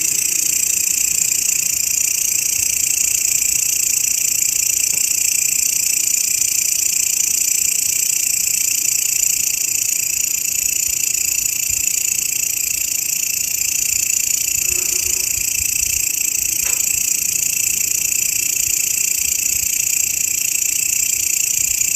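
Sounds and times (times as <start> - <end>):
grasshopper stridulating: 0.0 - 21.9.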